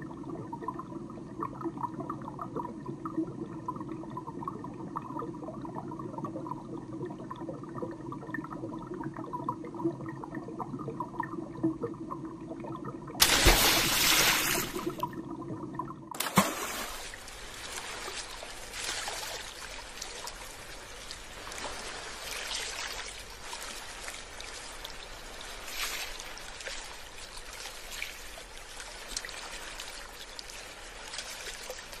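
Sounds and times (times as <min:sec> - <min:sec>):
water trickling: 0:00.0 - 0:32.0.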